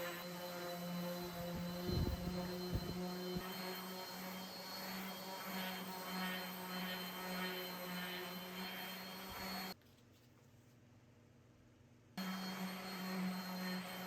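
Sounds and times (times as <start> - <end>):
machine hum with high whine: 0.0 - 9.8, 12.2 - 14.0.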